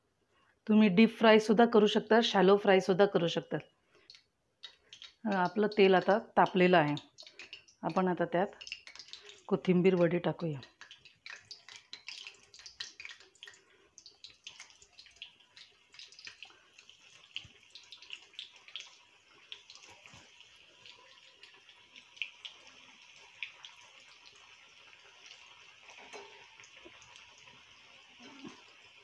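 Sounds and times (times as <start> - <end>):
food frying in hot oil: 4.0 - 29.0.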